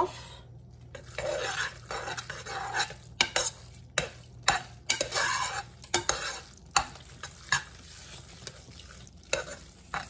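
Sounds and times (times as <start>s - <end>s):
metal spoon stirring pasta in pot: 0.6s - 10.0s.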